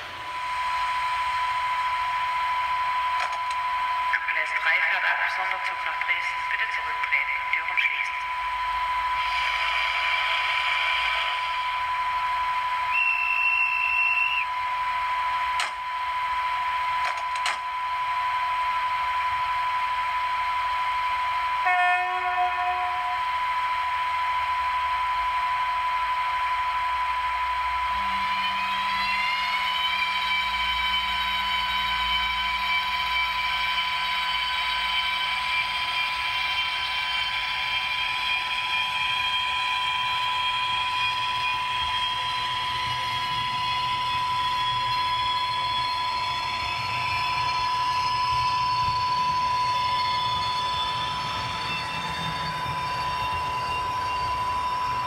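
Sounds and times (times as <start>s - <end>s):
electric motor whine: 0.0s - 4.1s, 8.2s - 55.0s
steady high tone: 0.0s - 55.0s.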